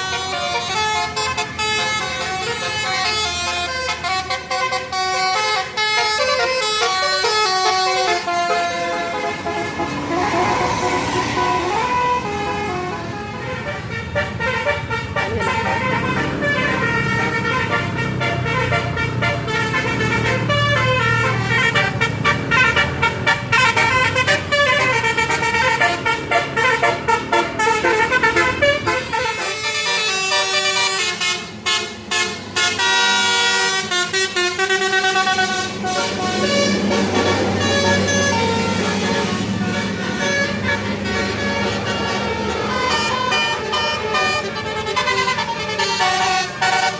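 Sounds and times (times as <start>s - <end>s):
bus engine rumble: 0.0s - 46.9s
multi-tone air horn melody: 0.0s - 46.9s.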